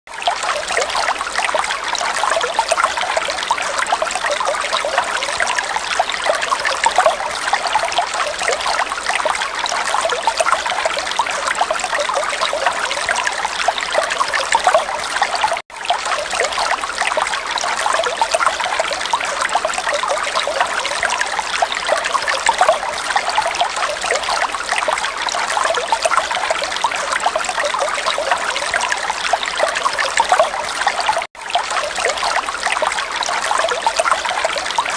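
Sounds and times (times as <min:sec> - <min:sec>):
water trickling: 0:00.1 - 0:34.9.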